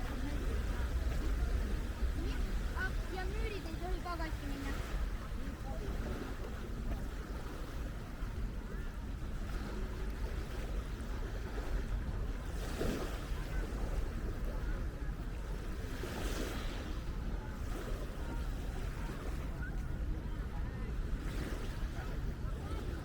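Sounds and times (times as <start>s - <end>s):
small waves washing onto shore: 0.0s - 23.0s
wind buffeting microphone: 0.0s - 23.0s.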